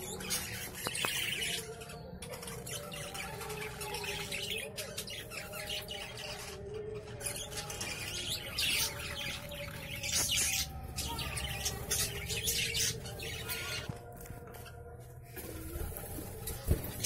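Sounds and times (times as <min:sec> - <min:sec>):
budgerigars chattering and squawking: 0:00.0 - 0:13.9.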